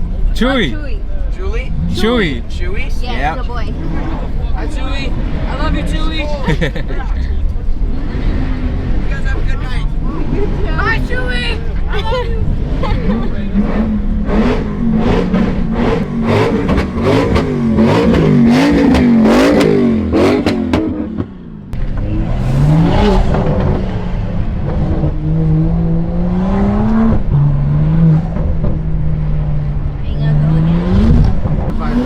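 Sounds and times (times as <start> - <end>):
car engines revving hard: 0.0 - 32.0
car engine shifting gear: 1.5 - 32.0.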